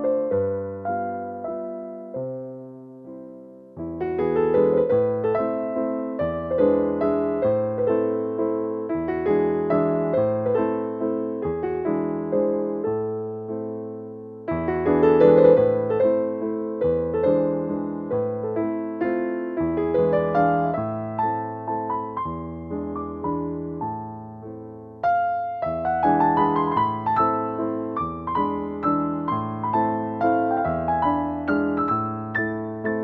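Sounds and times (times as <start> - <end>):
gentle piano melody: 0.0 - 33.0.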